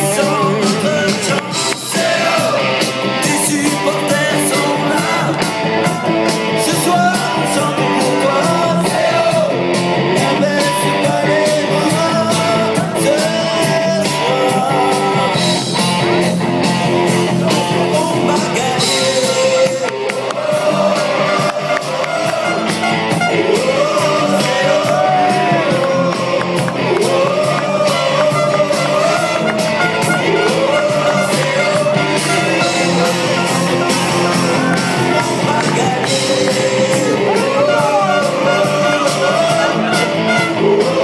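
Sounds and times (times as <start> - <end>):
person singing: 0.0 - 41.0
rock band playing: 0.0 - 41.0.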